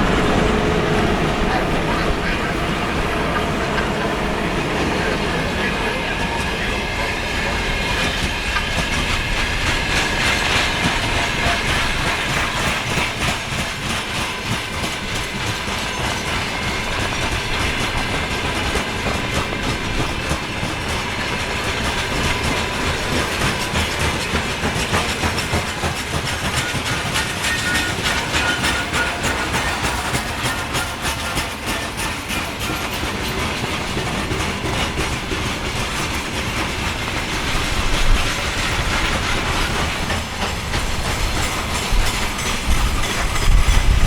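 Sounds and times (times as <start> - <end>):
train passing on rails: 0.0 - 44.0
wheels clacking over rail joints: 0.0 - 44.0.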